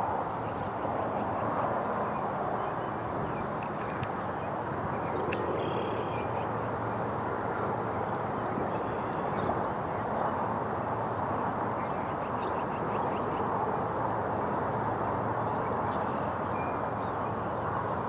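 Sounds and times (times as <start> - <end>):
steady rushing background noise: 0.0 - 18.0.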